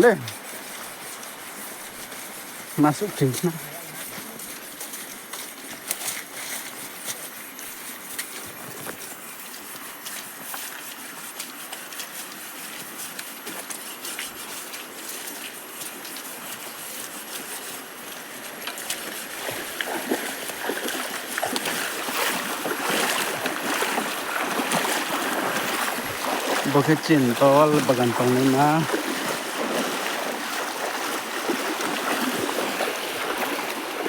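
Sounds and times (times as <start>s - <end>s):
stream water running: 0.0s - 34.0s
water splashing and sloshing: 0.0s - 34.0s.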